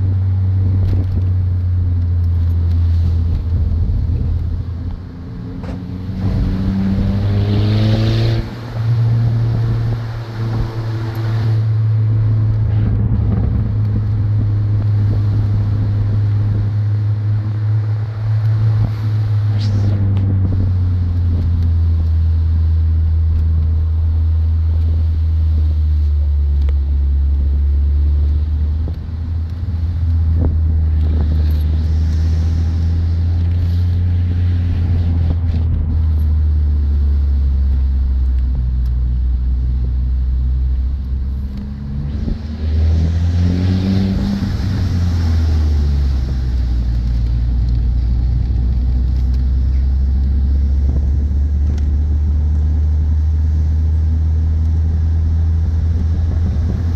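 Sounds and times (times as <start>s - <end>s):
car engine droning: 0.0s - 56.9s
road noise inside car: 0.0s - 56.9s.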